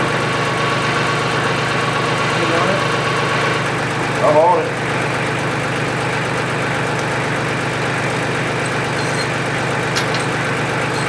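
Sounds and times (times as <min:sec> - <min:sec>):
motor droning: 0:01.6 - 0:11.0.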